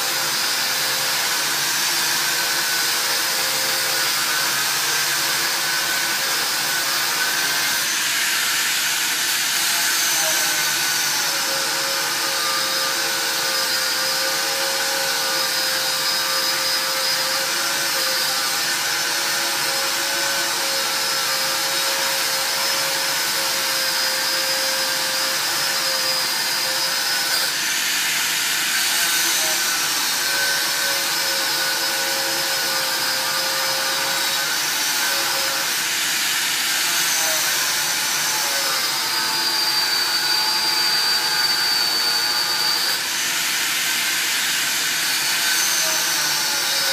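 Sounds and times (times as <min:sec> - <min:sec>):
angle grinder grinding steel: 0:00.0 - 0:46.9.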